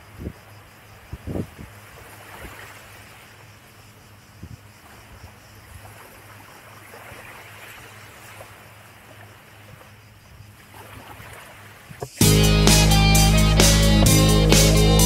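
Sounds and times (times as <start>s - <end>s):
small waves lapping on shore: 0.0s - 12.2s.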